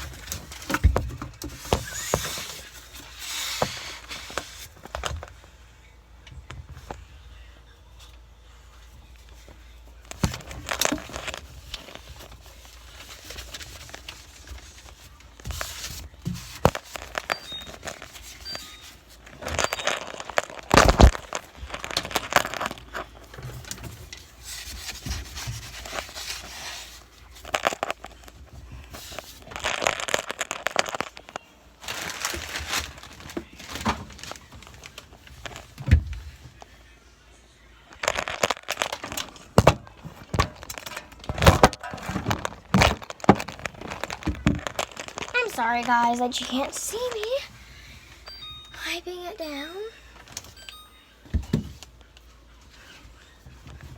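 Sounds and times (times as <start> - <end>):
rubbing and crinkling: 0.0 - 5.4, 8.8 - 36.8, 38.0 - 49.7.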